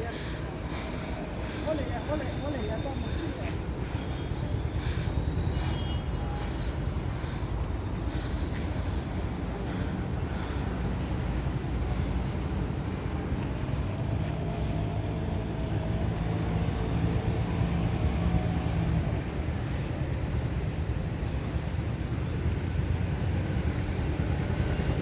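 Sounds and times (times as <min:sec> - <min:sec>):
road traffic rumbling: 0:00.0 - 0:25.0
vehicle engine drone: 0:00.0 - 0:25.0.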